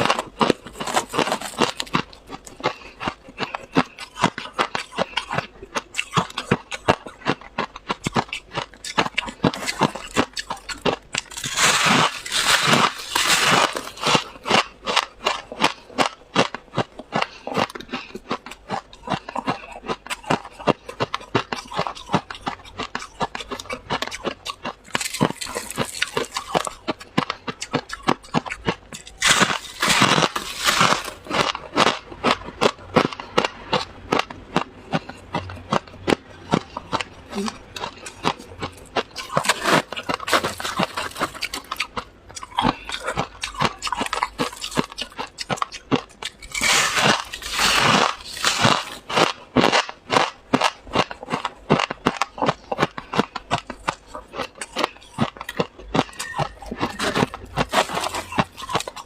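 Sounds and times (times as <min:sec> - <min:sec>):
frost being chewed crunching: 0:00.0 - 0:59.0.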